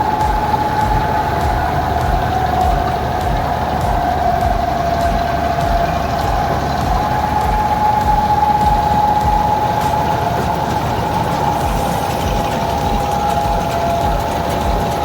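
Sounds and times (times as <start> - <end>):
combine harvester engine rumble: 0.0 - 15.0
machine whine: 0.0 - 15.0.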